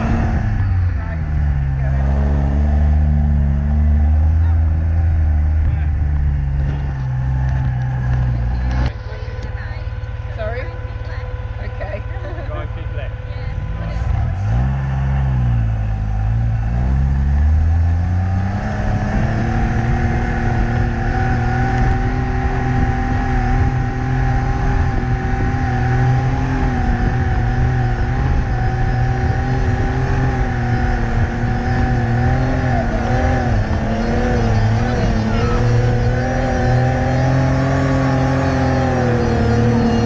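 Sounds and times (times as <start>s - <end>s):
car engine pulling under load: 0.0s - 40.0s.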